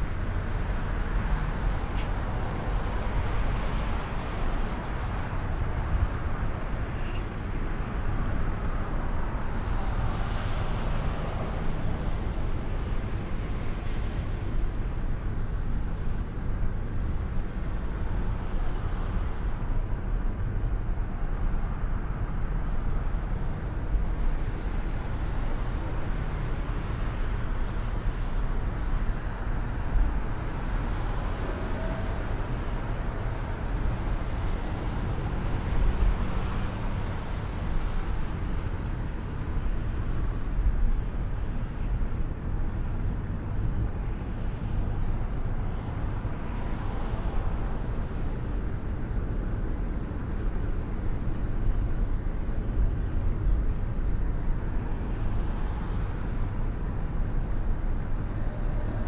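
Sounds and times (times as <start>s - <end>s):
car driving on snowy road: 0.0s - 59.0s.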